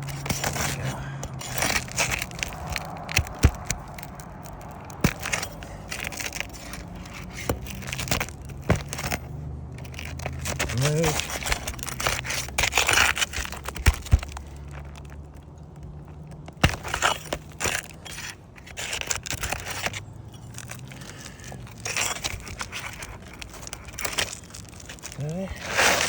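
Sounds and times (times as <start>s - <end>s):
roof shingle scraping: 0.0s - 26.0s.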